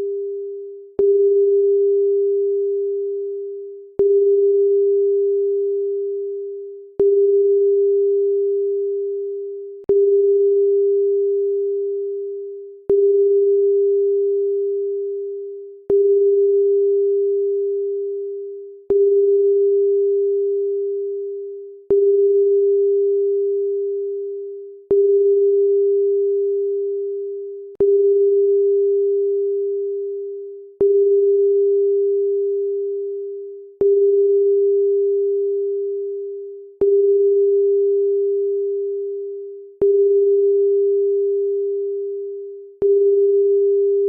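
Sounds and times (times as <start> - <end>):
pure steady tone: 0.0 - 44.0.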